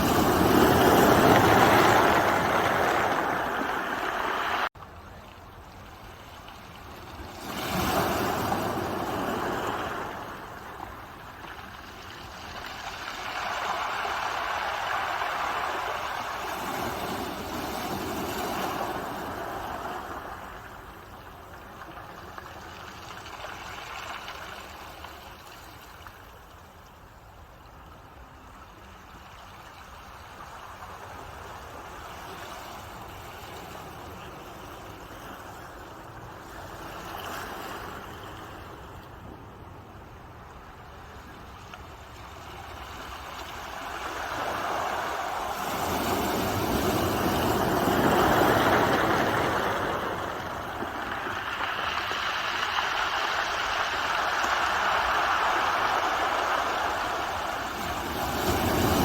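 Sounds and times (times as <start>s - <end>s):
ocean waves washing in: 0.0s - 4.7s, 5.8s - 26.4s, 27.7s - 59.0s.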